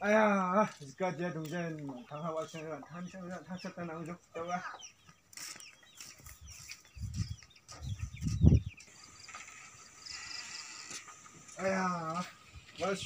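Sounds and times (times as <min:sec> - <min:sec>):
chickens peeping: 0:01.0 - 0:13.0.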